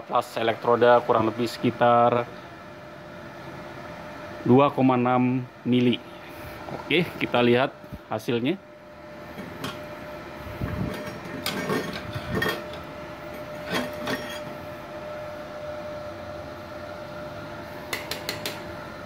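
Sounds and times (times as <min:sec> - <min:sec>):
welding machine hum: 0:00.0 - 0:19.0.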